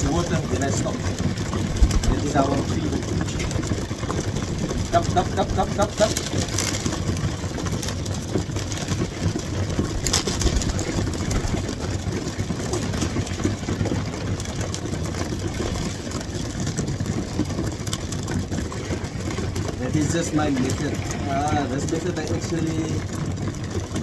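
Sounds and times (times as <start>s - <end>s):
pigeons pecking seed: 0.0s - 24.0s.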